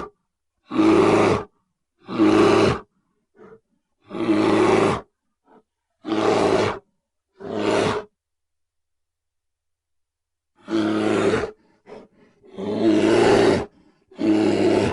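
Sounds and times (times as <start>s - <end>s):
bear roaring: 0.0s - 8.1s, 10.6s - 14.9s.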